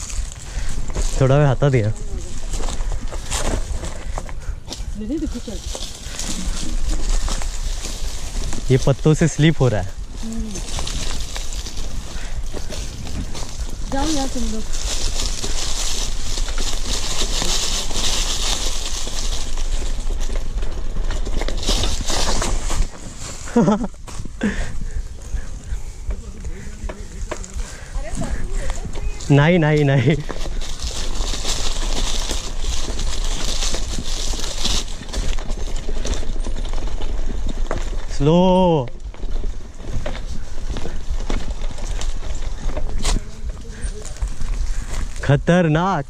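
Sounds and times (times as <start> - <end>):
wind rumble on microphone: 0.0 - 45.4
bicycle tyres crunching dry leaves: 0.0 - 46.0
bike rattling over bumps: 0.0 - 46.0.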